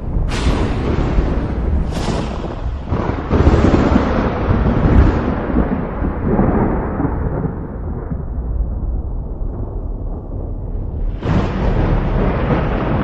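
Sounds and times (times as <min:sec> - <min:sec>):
thunder crack: 0:00.0 - 0:13.0
thunder rumbling: 0:00.0 - 0:13.0.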